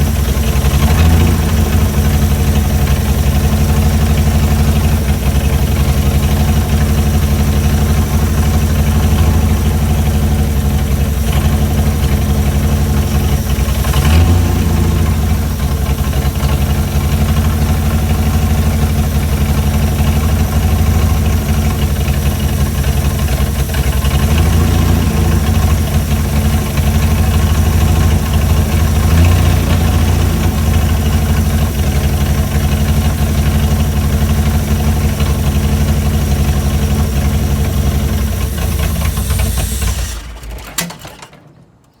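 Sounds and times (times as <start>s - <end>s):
engine idling and revving: 0.0s - 40.8s.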